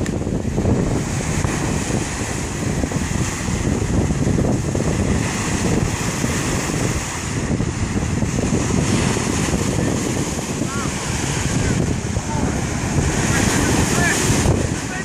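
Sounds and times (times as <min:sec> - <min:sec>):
waves breaking on beach: 0:00.0 - 0:15.0
wind across microphone: 0:00.0 - 0:15.0.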